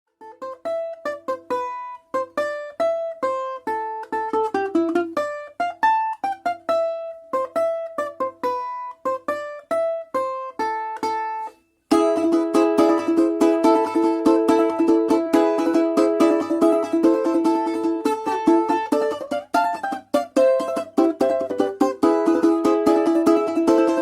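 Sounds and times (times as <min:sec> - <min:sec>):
picked string instrument melody: 0:00.1 - 0:24.0
strummed string instrument: 0:00.1 - 0:24.0.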